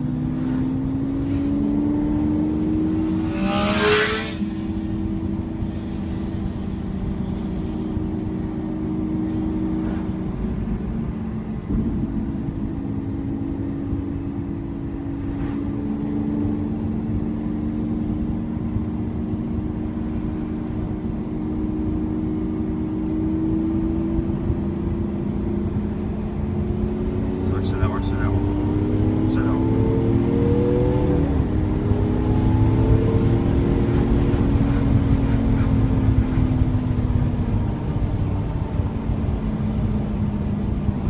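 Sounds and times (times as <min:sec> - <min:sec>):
car engine drone from cabin: 0:00.0 - 0:41.0
road and tyre noise: 0:00.0 - 0:41.0.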